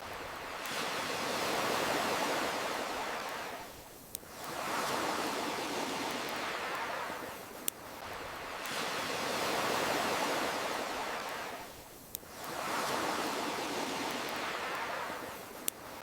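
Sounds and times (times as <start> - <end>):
ocean waves washing in: 0.0 - 16.0
wood fire crackle: 1.8 - 10.2, 10.9 - 16.0.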